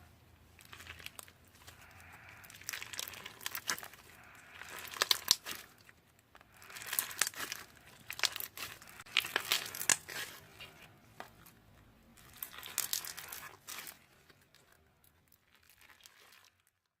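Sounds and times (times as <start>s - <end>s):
slime squished by hand: 0.5s - 16.9s.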